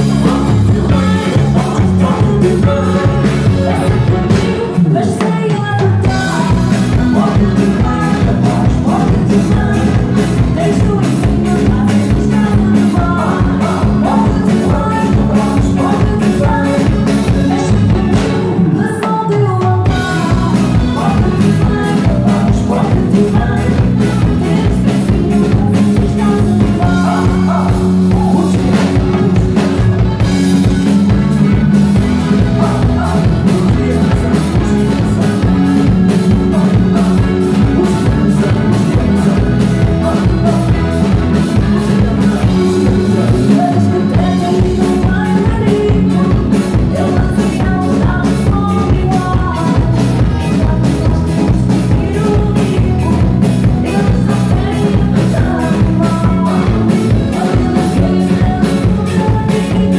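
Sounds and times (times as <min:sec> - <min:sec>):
accordion: 0:00.0 - 0:18.8, 0:19.8 - 0:59.9
drum kit beat: 0:00.0 - 0:59.9
electric guitar: 0:00.0 - 0:59.9
person singing: 0:00.0 - 0:59.9.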